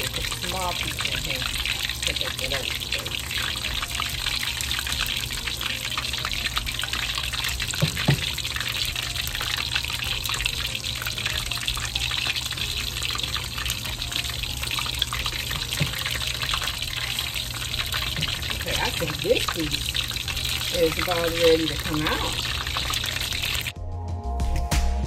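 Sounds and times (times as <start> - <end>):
fish deep-frying in oil: 0.0 - 23.7.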